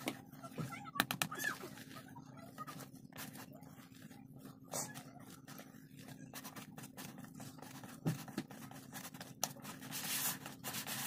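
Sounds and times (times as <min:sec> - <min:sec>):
batter stirred in a bowl: 0:00.0 - 0:11.0.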